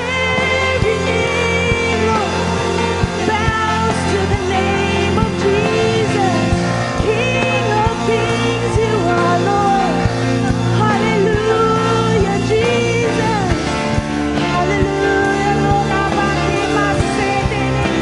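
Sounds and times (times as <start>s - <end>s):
lead vocalist singing: 0.0s - 18.0s
steady bass: 0.0s - 18.0s
sustained keys or guitar: 0.0s - 18.0s.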